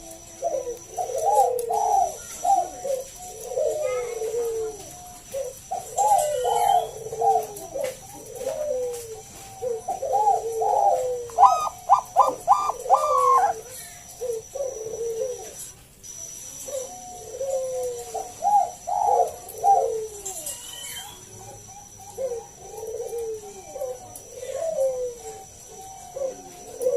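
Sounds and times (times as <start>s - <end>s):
dove cooing: 0.0s - 15.8s, 16.5s - 26.9s.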